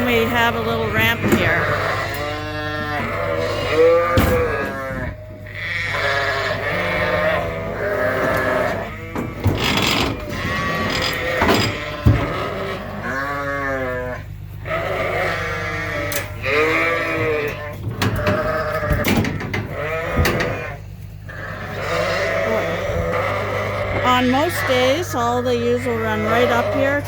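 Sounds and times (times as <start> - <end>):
sheep bleating: 0.0 - 27.0.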